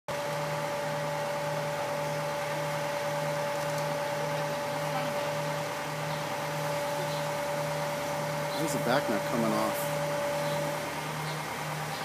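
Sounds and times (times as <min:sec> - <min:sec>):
crane engine running: 0:00.1 - 0:12.0.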